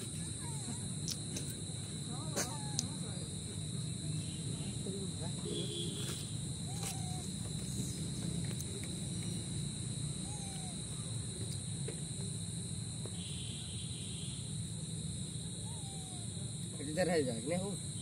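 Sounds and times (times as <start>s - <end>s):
insect chorus buzzing: 0.0s - 18.0s
short insect call: 0.0s - 18.0s.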